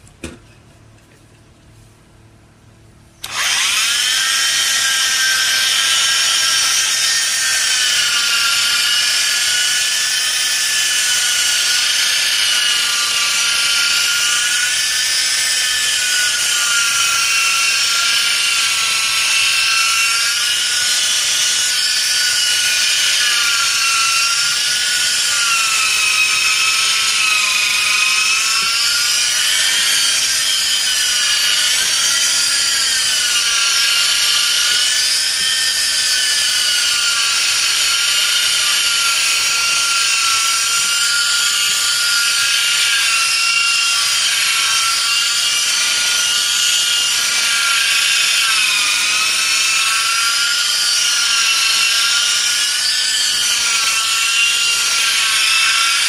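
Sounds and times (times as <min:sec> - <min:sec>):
electric polisher motor whine: 0:03.2 - 0:56.0.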